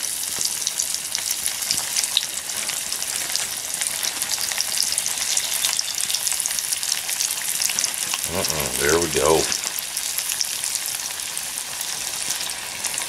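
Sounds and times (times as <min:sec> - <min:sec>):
frying sizzle with crackling pops: 0:00.0 - 0:13.0.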